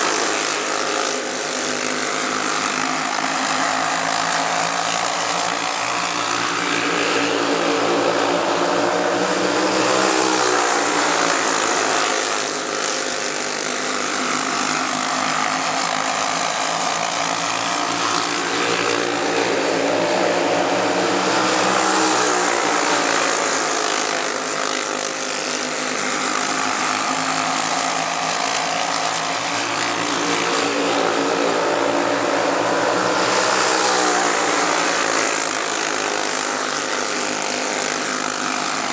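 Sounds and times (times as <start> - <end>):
go-kart engines racing: 0.0 - 38.9.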